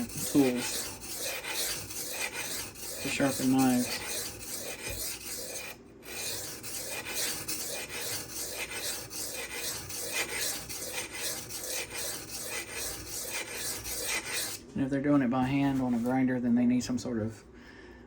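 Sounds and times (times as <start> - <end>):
knife scraping on sharpening stone: 0.0 - 14.6.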